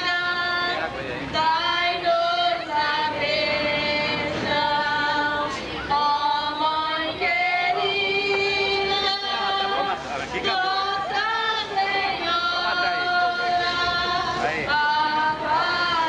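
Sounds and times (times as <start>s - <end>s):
voices singing a slow hymn: 0.0s - 16.0s.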